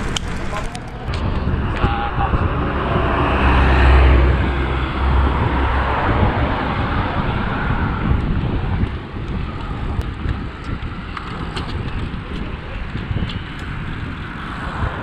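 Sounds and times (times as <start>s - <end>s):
bicycle road noise: 0.0s - 15.0s
wind buffeting microphone: 0.0s - 15.0s.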